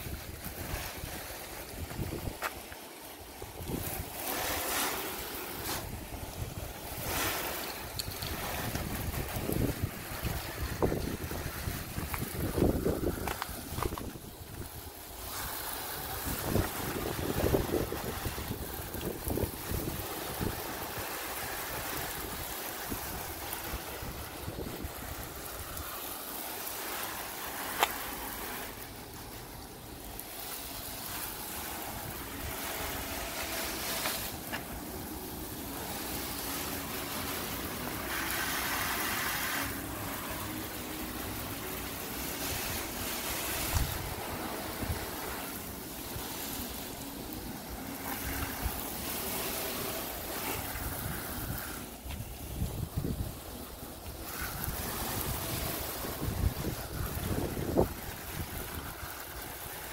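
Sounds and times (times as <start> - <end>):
hose spraying water on car: 0.0 - 59.9.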